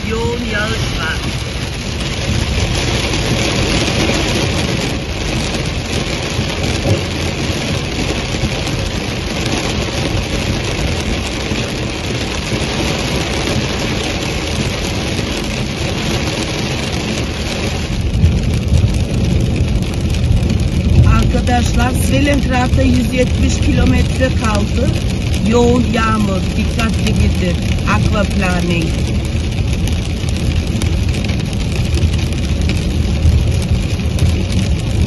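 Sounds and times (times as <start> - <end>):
car engine: 0.0 - 35.0
heavy rain on car roof: 0.0 - 35.0
tyres on wet road: 0.0 - 35.0.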